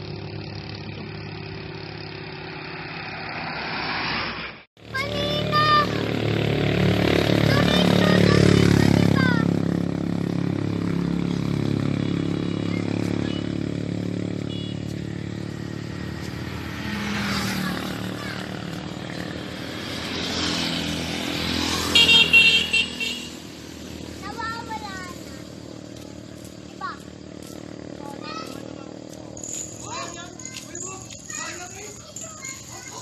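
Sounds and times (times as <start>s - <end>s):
vehicle engine passing: 0.0s - 33.0s.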